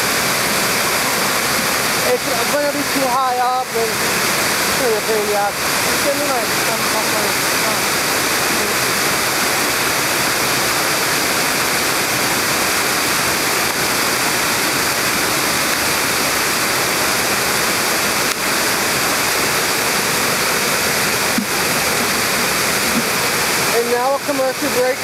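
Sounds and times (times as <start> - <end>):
waterfall and rapids rushing: 0.0 - 25.0.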